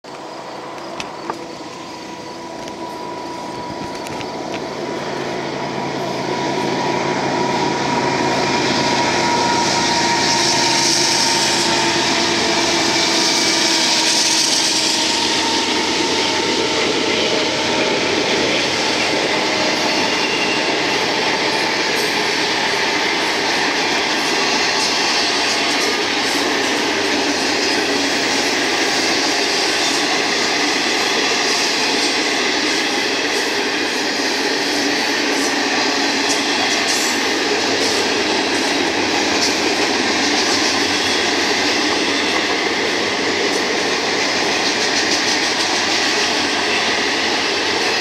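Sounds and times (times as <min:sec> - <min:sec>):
diesel locomotive engines: 0:00.0 - 0:48.0
train wheels on rails: 0:00.0 - 0:48.0.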